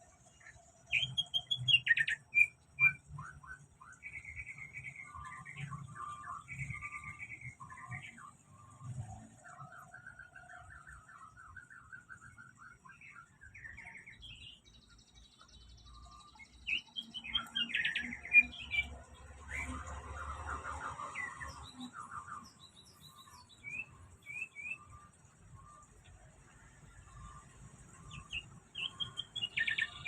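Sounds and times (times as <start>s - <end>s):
songbird chirping and trilling: 0.0s - 30.0s.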